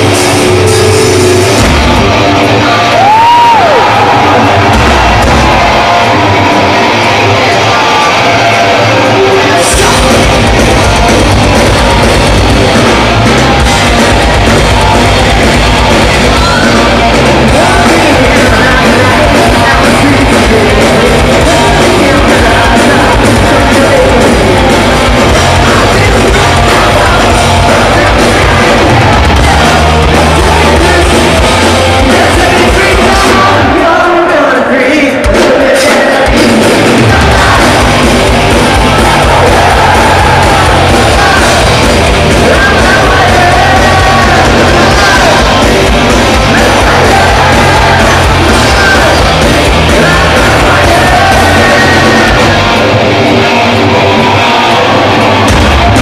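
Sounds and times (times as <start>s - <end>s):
bass guitar: 0.0s - 34.0s, 36.3s - 56.0s
distorted electric guitars: 0.0s - 56.0s
rock drums: 0.0s - 56.0s
shouted lead vocals: 0.0s - 56.0s.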